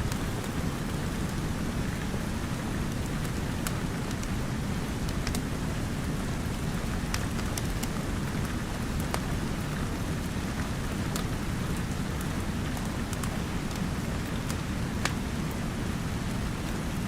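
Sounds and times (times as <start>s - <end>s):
steady deep rain: 0.0s - 17.0s
wood fire crackling and popping: 0.1s - 15.2s.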